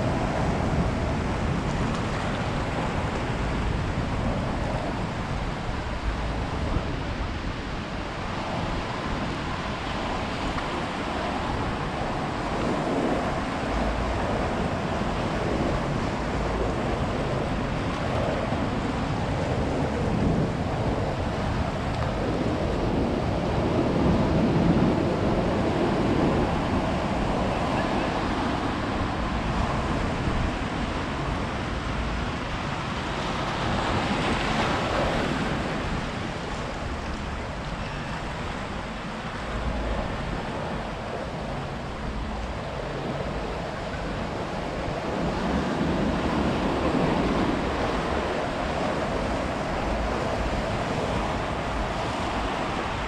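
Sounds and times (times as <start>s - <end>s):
ocean surf breaking: 0.0s - 53.0s.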